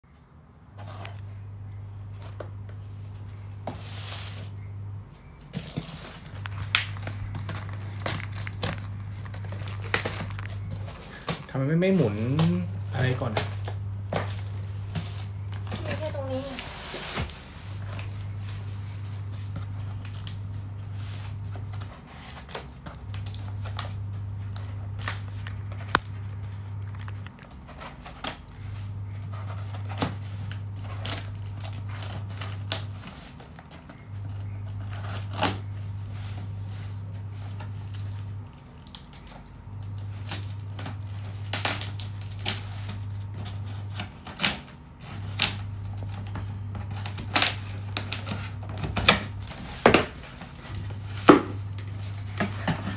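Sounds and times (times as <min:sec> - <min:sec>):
tape crinkling: 0:00.8 - 0:52.9.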